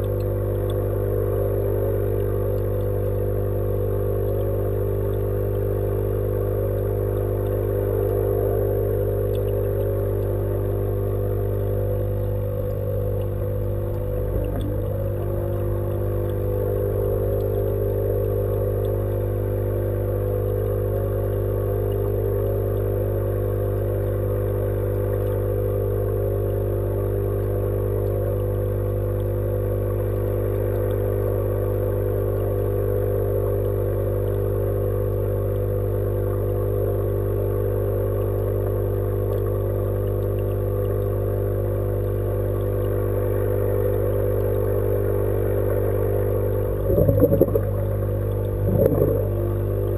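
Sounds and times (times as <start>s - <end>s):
pump humming underwater: 0.0s - 49.9s.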